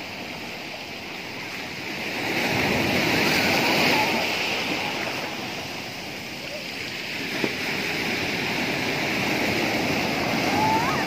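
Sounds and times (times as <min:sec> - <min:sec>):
sea surf washing up shore: 0:00.0 - 0:11.0.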